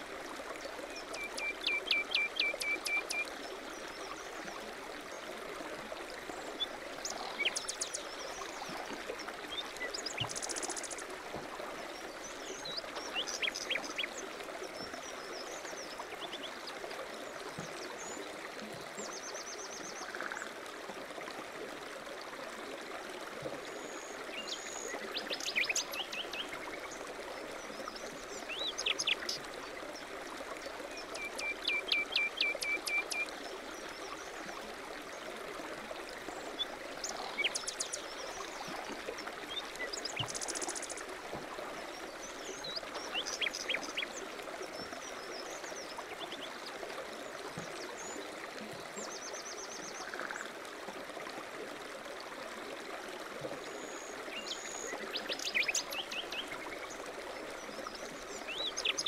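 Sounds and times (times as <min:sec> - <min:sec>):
flowing stream: 0:00.0 - 0:59.0.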